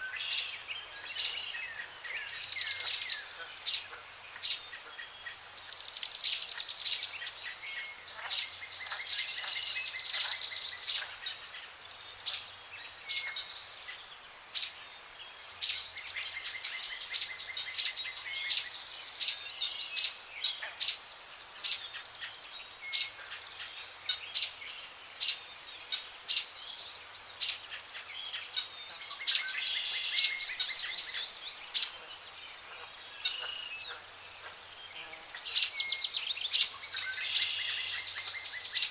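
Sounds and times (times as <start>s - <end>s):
songbirds trilling and warbling: 0.0s - 38.9s.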